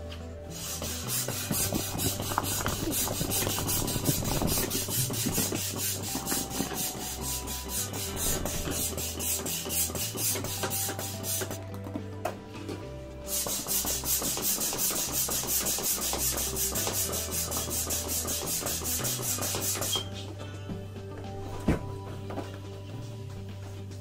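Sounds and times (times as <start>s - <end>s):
background music with bass line: 0.0s - 24.0s.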